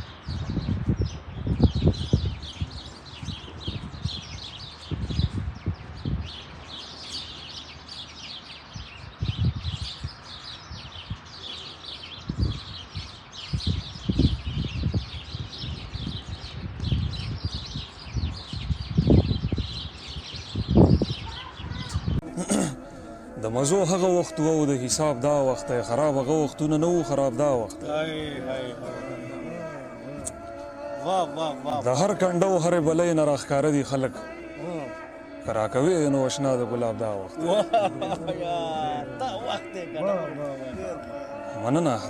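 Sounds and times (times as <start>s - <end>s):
songbirds chirping in chorus: 0.0s - 42.0s.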